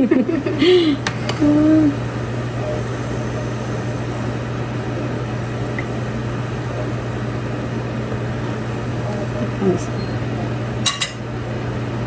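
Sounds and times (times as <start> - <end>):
appliance motor humming: 0.0 - 12.0.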